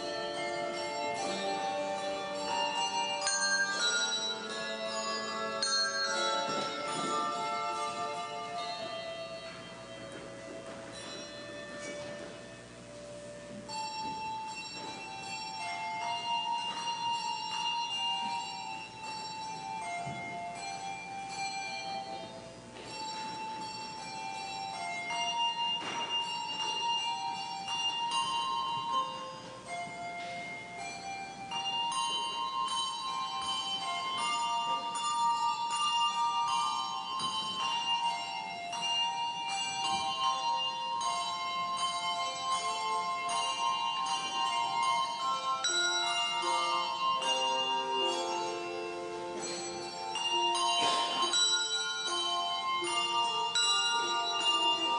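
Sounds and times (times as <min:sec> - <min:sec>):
handbell choir ringing chords: 0:00.0 - 0:54.9.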